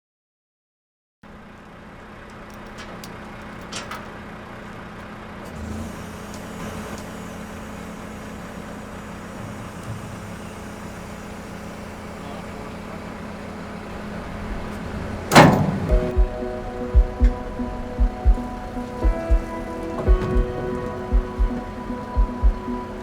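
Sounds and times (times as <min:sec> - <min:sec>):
engine humming: 0:01.3 - 0:23.0.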